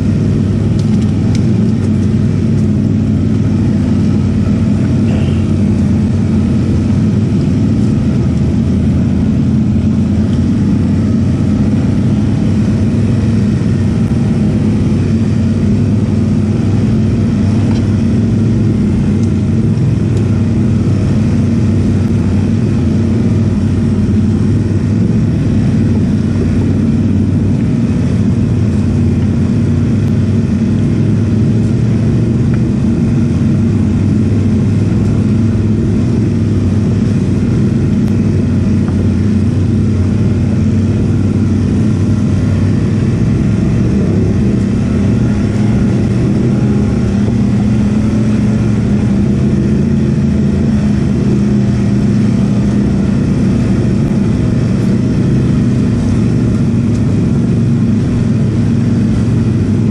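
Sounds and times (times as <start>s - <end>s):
atv engine droning: 0.0s - 59.9s.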